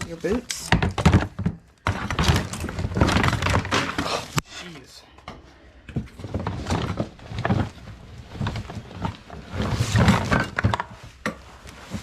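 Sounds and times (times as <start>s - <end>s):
items rummaged knocking and scraping: 0.0s - 12.0s.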